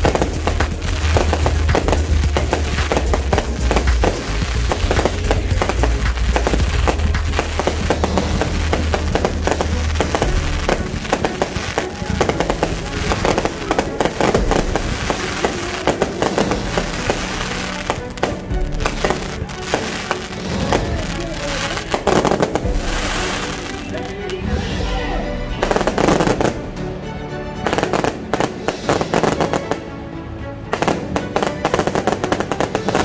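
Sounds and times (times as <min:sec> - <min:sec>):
firework bangs and crackles: 0:00.0 - 0:25.0, 0:25.6 - 0:26.7, 0:27.7 - 0:29.8, 0:30.7 - 0:33.0
music with held notes: 0:00.0 - 0:33.0.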